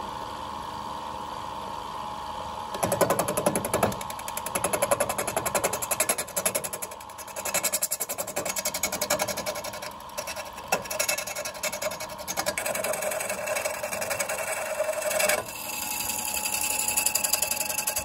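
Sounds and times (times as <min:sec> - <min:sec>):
chisel chattering on spinning bamboo: 0:02.8 - 0:18.0
wood lathe whining: 0:02.8 - 0:18.0.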